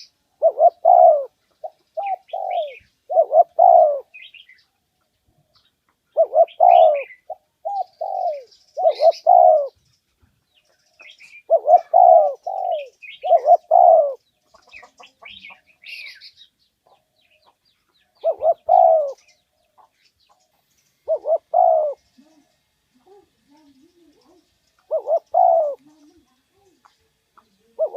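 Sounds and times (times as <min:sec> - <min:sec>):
dove cooing: 0:00.0 - 0:04.5, 0:06.1 - 0:09.8, 0:11.0 - 0:16.2, 0:16.8 - 0:19.9, 0:21.0 - 0:26.9, 0:27.6 - 0:27.9.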